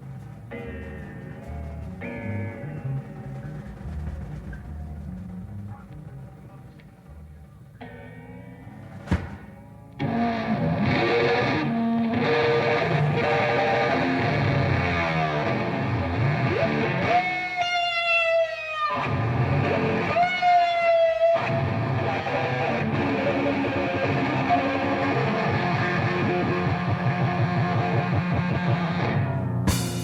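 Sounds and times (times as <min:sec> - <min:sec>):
distorted electric guitar: 0:00.0 - 0:30.0.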